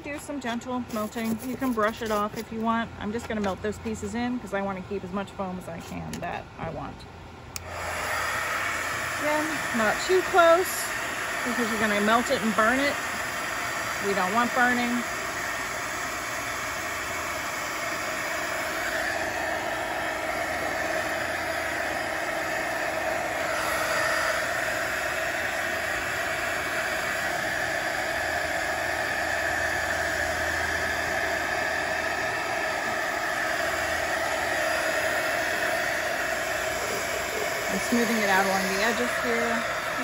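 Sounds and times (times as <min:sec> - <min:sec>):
hot-wire foam cutter whirring hiss: 0:00.7 - 0:02.7, 0:07.6 - 0:40.0.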